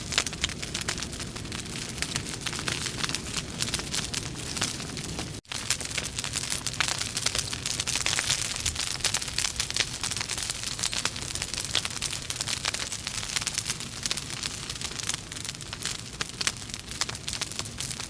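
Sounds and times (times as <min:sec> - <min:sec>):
logs crackling in fireplace: 0:00.0 - 0:18.0.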